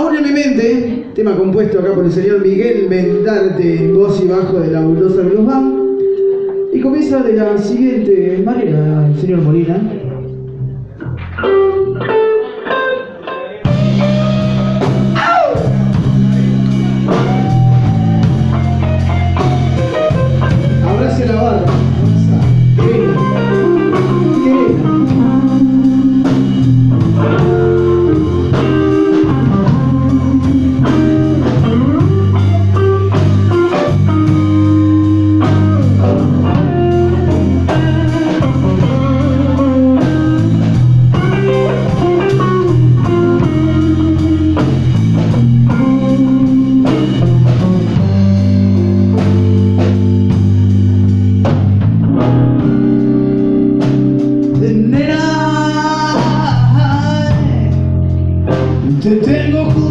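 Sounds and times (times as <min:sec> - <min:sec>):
bass guitar: 0:00.0 - 0:59.9
electric guitar lines: 0:00.0 - 0:59.9
drum kit: 0:09.8 - 0:59.9.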